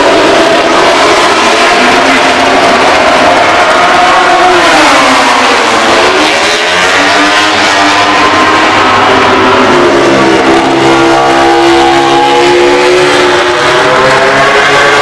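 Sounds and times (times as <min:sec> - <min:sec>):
racing motorcycle engine revving: 0:00.0 - 0:15.0.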